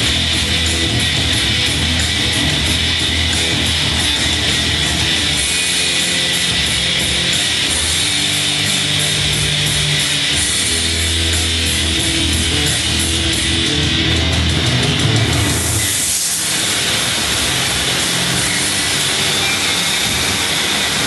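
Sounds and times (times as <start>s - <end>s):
rock music with guitar: 0.0s - 21.0s.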